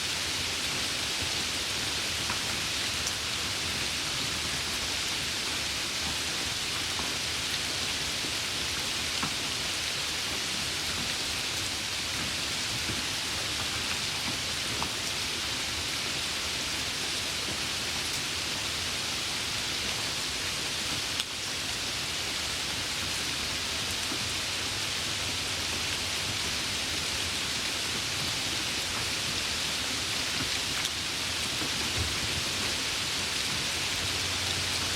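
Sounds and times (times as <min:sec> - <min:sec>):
light rain falling: 0:00.0 - 0:34.9.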